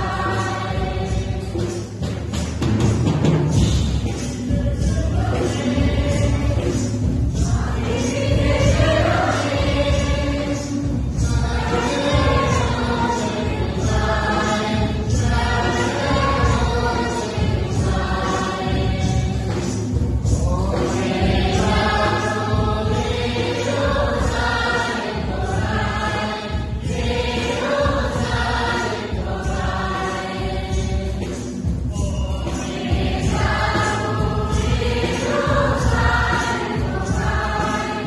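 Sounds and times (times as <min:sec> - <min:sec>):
congregation singing a hymn: 0:00.0 - 0:38.0.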